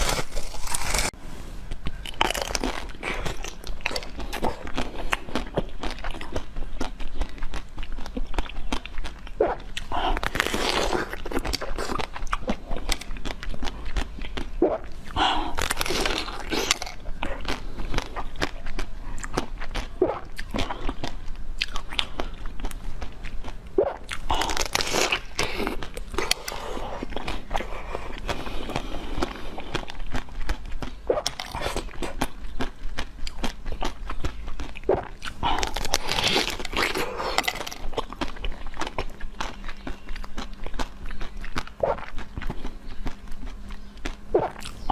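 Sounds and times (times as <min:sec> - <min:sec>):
biting and chewing: 0:00.0 - 0:44.9.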